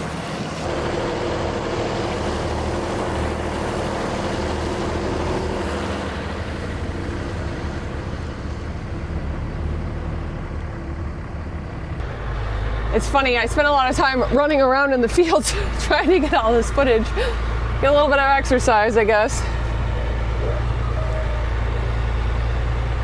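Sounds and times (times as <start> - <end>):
heavy farm machinery engines droning: 0.0 - 23.0.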